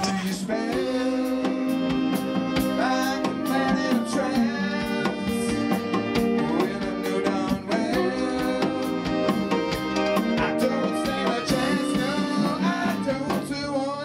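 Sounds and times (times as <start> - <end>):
man singing: 0.0 - 9.5, 10.2 - 14.0
trombone: 0.0 - 13.7
steady drum beat: 0.0 - 13.8
guitar: 0.0 - 14.0
saxophone: 0.0 - 14.0.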